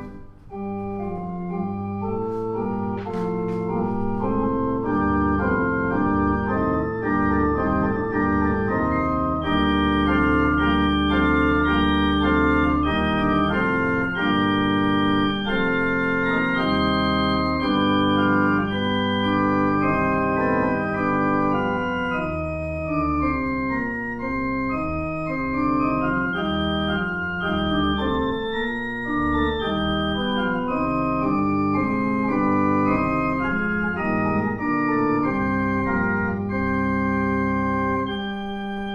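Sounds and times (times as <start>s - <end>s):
organ music: 0.0s - 38.9s.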